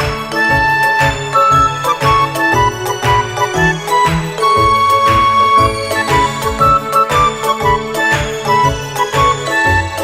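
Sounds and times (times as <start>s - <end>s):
music with steady beat and chimes: 0.0s - 10.0s.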